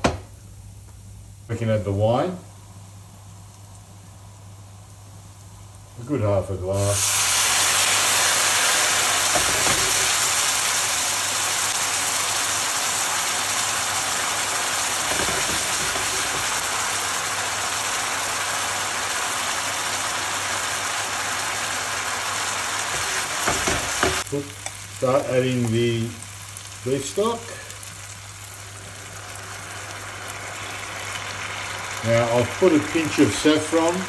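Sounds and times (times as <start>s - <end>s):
wine sizzling in a hot pan: 1.4s - 34.0s.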